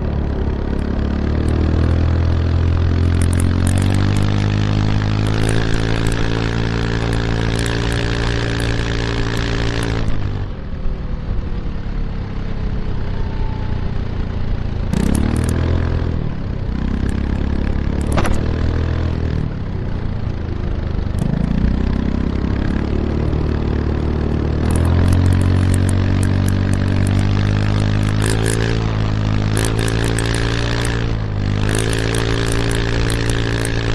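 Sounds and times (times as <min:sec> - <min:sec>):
scooter engine exhaust: 0:00.0 - 0:12.1, 0:12.7 - 0:33.9.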